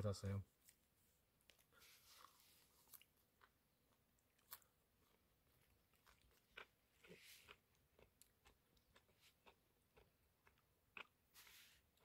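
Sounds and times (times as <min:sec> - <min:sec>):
man chewing food: 0:01.4 - 0:12.0.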